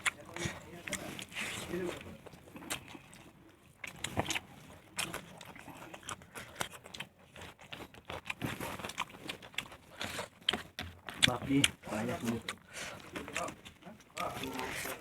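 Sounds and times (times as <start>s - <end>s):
person biting and chewing: 0.0s - 15.0s.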